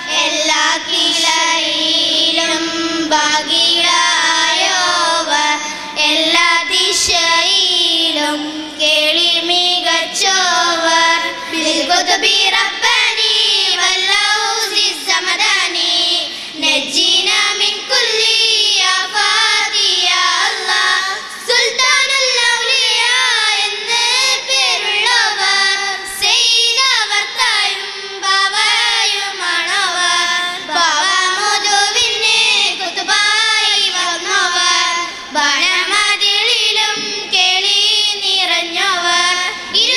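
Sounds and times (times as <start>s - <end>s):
girls singing in unison: 0.0s - 39.9s.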